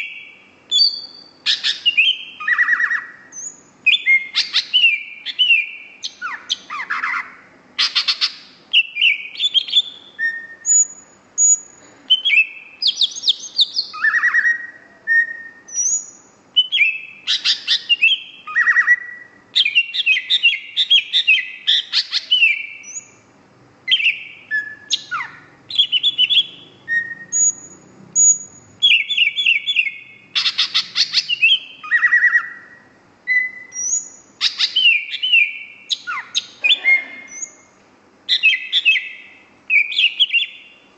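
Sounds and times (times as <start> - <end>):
bird singing with trills: 0.0 - 23.3, 23.9 - 37.7, 38.3 - 40.9.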